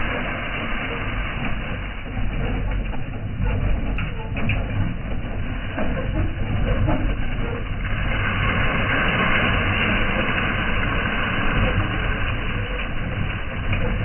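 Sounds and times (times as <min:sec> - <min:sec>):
harvester engine rumbling: 0:00.0 - 0:14.0.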